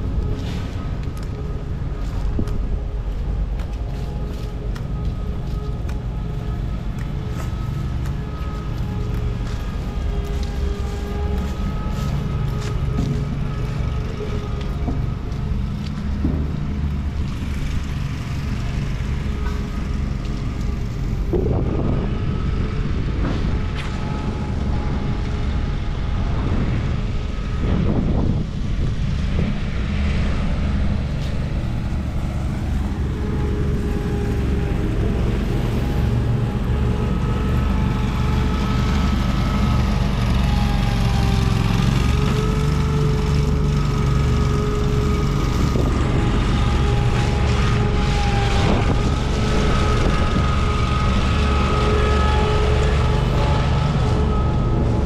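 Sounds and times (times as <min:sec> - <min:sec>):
small engine whining: 0:00.0 - 0:55.0.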